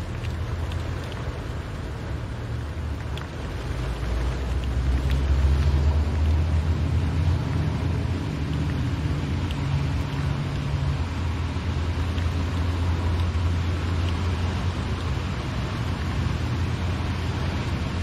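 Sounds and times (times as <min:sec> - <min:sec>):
car engine and road rumble: 0:00.0 - 0:18.0
rain hissing on wet road: 0:00.0 - 0:18.0
raindrops tapping: 0:00.0 - 0:18.0.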